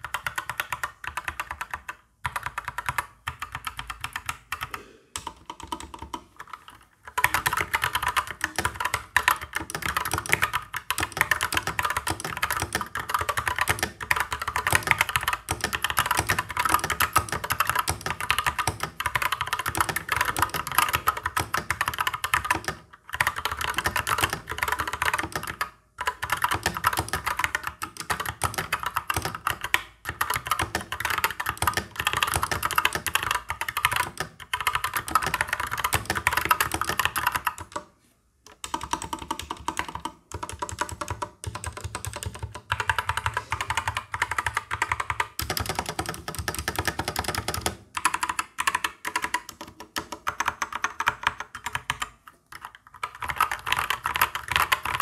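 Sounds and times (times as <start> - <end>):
typing on mechanical keyboard: 0.0 - 37.9, 38.5 - 55.0.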